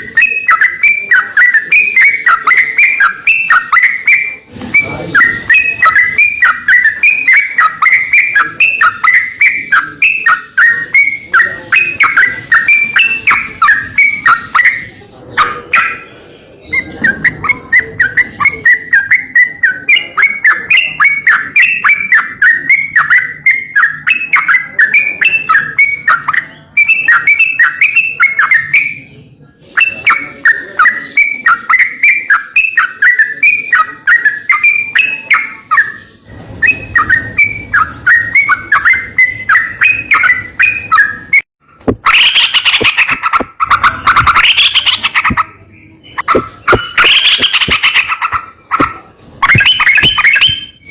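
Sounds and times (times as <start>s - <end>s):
songbird chirping: 0.0s - 50.9s.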